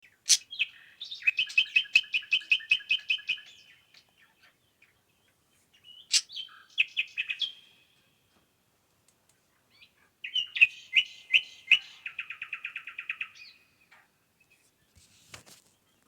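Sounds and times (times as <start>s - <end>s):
songbird singing: 0.0s - 8.5s, 9.3s - 15.0s.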